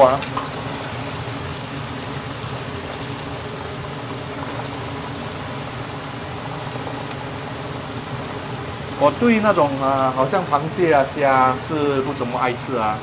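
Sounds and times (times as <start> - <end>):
oil sizzling and bubbling: 0.0 - 13.0.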